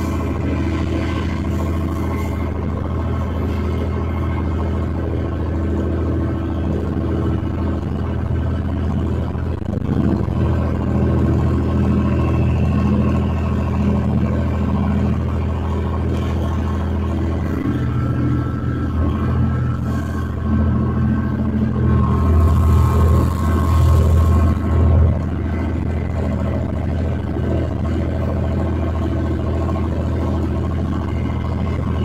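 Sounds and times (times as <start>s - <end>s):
diesel locomotive engine drone: 0.0s - 32.0s.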